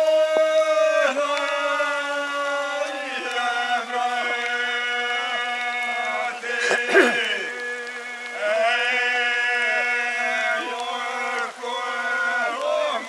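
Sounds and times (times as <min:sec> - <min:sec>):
voices singing folk song: 0:00.0 - 0:13.0.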